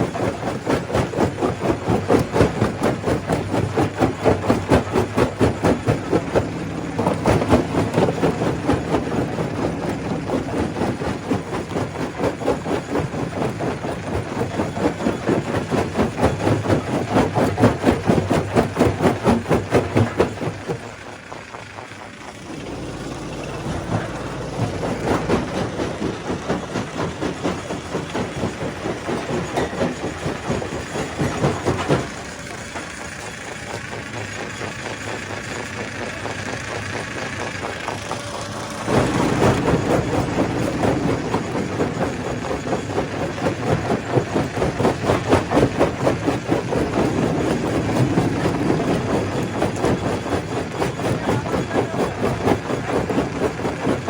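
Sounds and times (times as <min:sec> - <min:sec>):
stone crusher running: 0:00.0 - 0:54.0.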